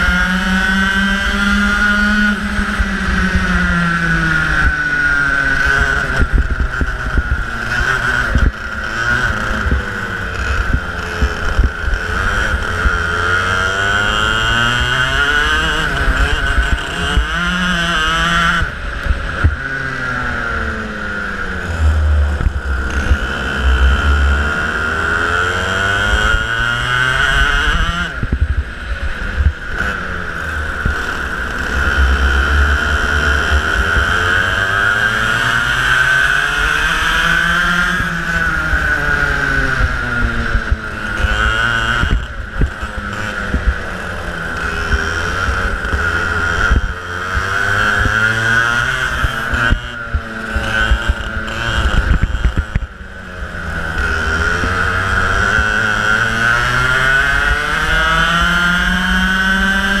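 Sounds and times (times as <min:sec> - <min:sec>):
kart engine revving: 0:00.0 - 1:00.0.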